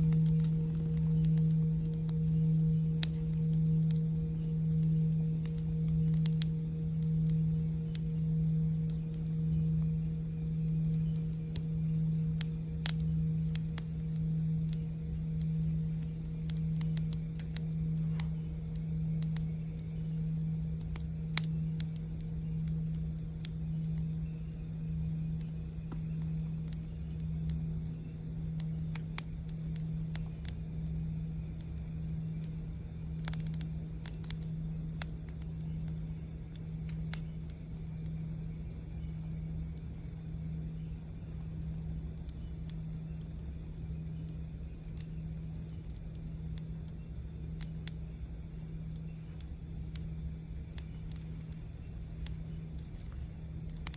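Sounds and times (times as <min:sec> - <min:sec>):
campfire crackling and popping: 0:00.0 - 0:53.9
singing bowl humming: 0:00.0 - 0:53.9.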